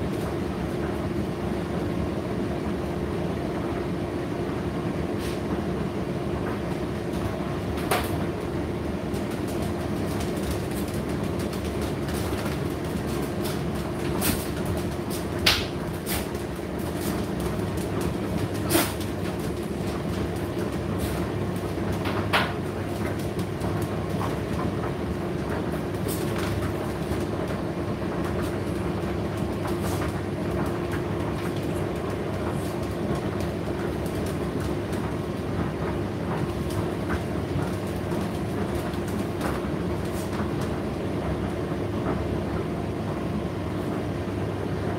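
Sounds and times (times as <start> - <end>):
tumble dryer humming: 0.0 - 44.9.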